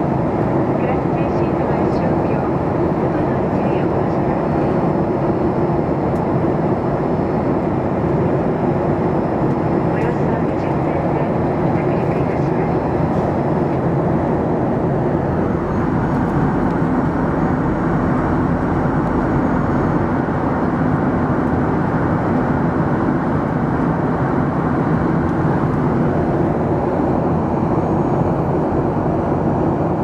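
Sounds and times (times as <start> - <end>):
jet airliner cabin noise: 0.0 - 30.0.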